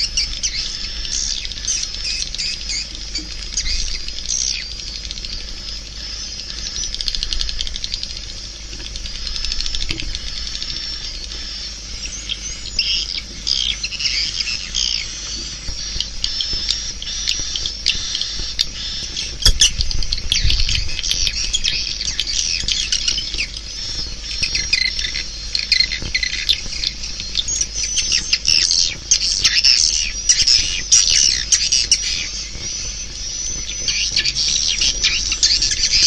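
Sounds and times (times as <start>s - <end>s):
swiftlets twittering: 0.0s - 36.0s.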